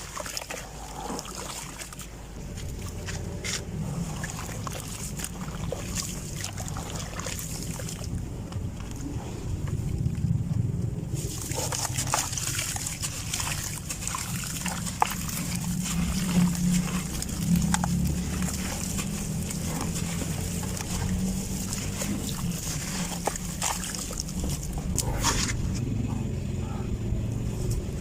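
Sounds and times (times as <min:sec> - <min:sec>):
dry sand and dirt crumbling: 0:00.0 - 0:25.9
low rumble: 0:02.1 - 0:28.0.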